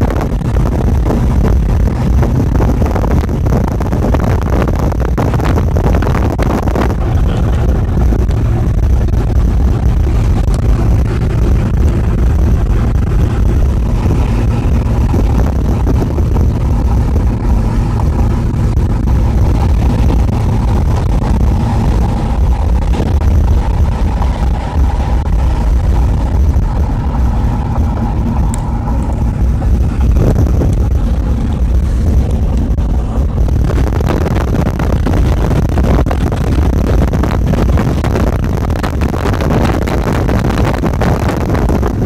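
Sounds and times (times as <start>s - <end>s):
engine rumble: 0.0s - 42.0s
wind noise: 0.0s - 42.0s.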